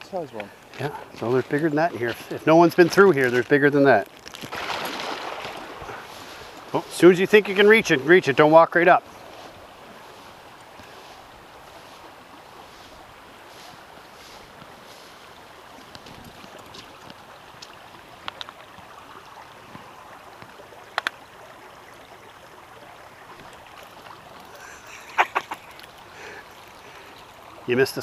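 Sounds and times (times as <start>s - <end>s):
brook running over stones: 0.0s - 28.0s.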